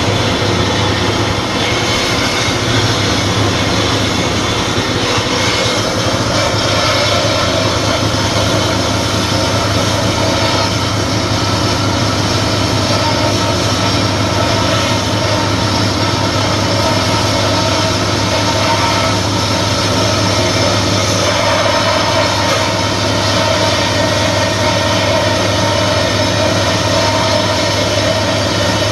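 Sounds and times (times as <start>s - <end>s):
belt sander grinding metal: 0.0s - 28.9s
belt sander motor hum: 0.0s - 28.9s.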